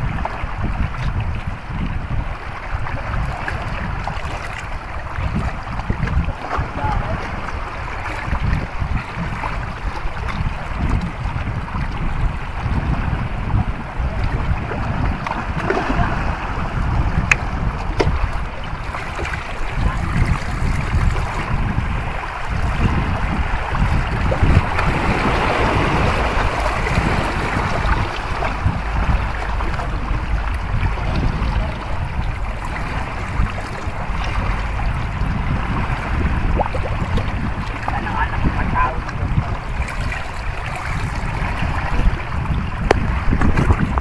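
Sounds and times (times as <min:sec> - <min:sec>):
low irregular rumble: 0:00.0 - 0:44.0
sea water washing against rocks: 0:00.0 - 0:44.0
wind buffeting microphone: 0:00.0 - 0:44.0.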